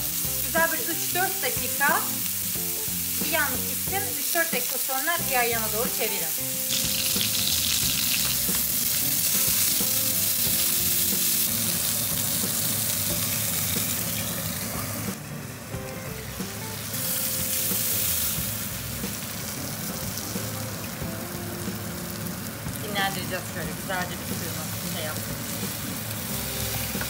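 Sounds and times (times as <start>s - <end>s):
burger patties sizzling in pan: 0.0s - 27.0s.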